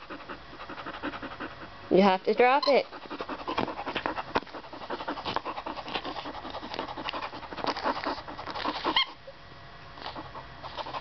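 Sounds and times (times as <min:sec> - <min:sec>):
dog panting rapidly: 0:00.0 - 0:09.2, 0:10.0 - 0:11.0.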